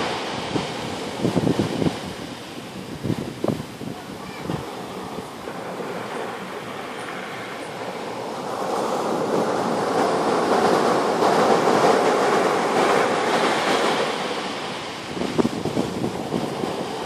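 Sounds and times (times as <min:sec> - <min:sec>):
surf breaking on a beach: 0:00.0 - 0:17.0.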